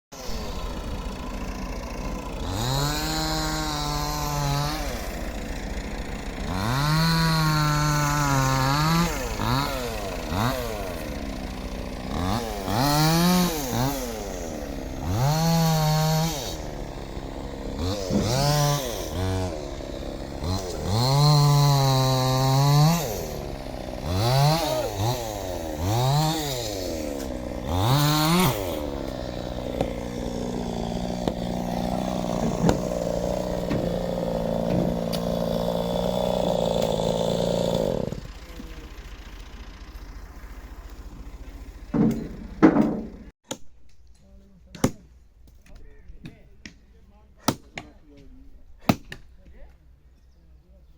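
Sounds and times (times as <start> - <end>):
chainsaw revving and idling: 0.1 - 43.4
chainsaw cutting wood: 0.1 - 43.7, 47.4 - 49.3.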